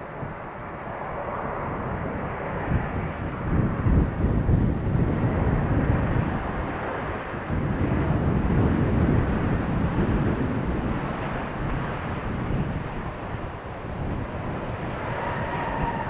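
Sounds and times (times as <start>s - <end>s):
jet engine rumble: 0.0s - 16.0s.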